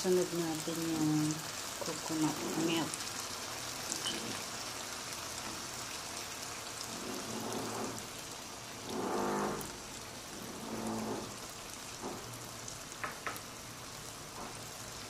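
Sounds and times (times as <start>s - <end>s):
curry simmering in a pan: 0.0s - 15.0s.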